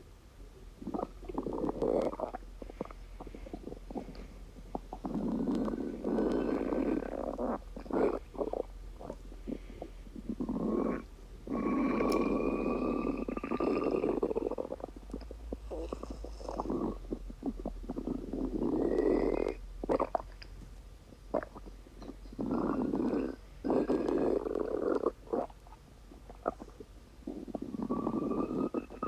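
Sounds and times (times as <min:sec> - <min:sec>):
stomach rumbling: 0:00.8 - 0:29.0.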